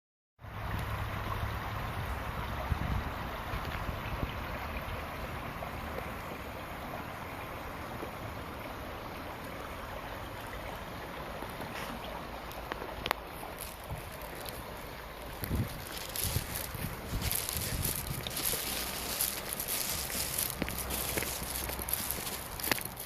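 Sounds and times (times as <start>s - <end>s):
running water: 0.4s - 23.0s.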